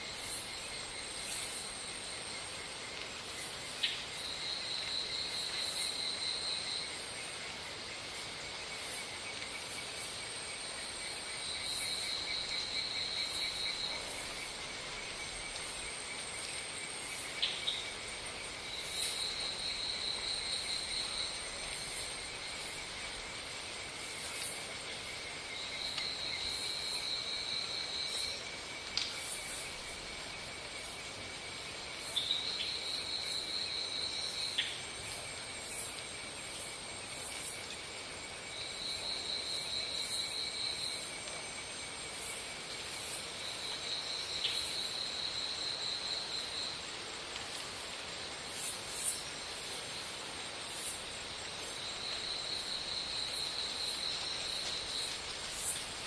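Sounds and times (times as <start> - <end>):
insect trill: 0.0 - 56.0
insects chirring: 0.0 - 56.0.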